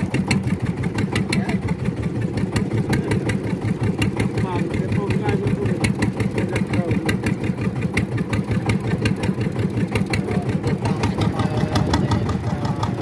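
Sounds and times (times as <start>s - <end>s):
boat engine knocking: 0.0s - 13.0s.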